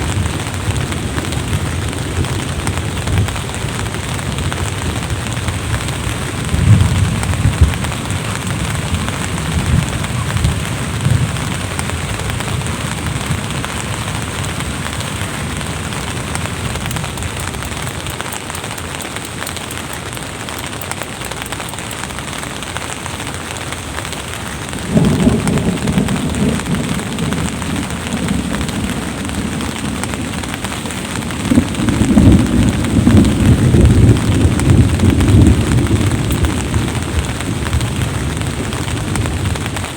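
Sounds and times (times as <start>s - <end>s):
rolling thunder: 0.0s - 18.0s, 24.6s - 39.9s
steady rain: 0.0s - 39.9s.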